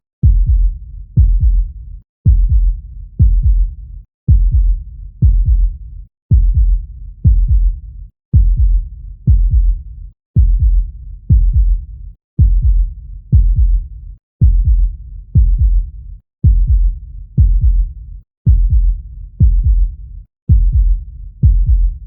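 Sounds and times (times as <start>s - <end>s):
heartbeat thuds: 0.2s - 3.7s, 4.3s - 9.8s, 10.4s - 11.8s, 12.4s - 13.8s, 14.4s - 17.9s, 18.5s - 22.0s.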